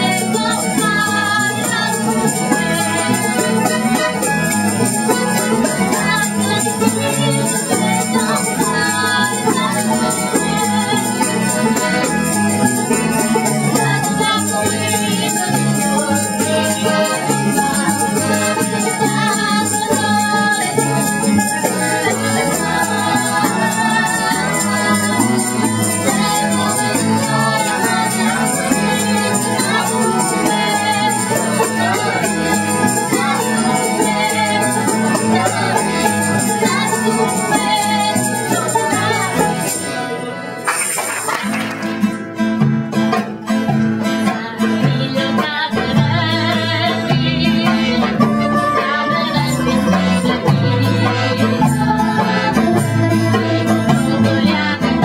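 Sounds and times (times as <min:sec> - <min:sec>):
singing: 0:00.0 - 0:04.2, 0:04.8 - 0:40.7, 0:44.3 - 0:55.0
shaken percussion beat: 0:00.0 - 0:55.0.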